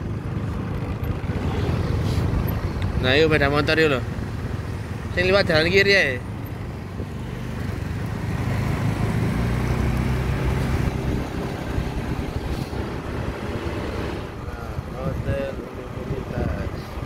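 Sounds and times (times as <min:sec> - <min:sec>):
scooter engine running: 0:00.0 - 0:17.0
wind and road noise: 0:00.0 - 0:17.0.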